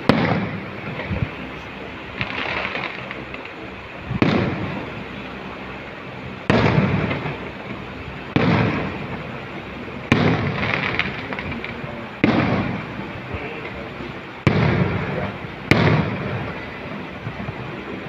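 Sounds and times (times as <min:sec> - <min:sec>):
firework crackling: 0:00.0 - 0:18.0
firework shells booming: 0:00.0 - 0:18.0.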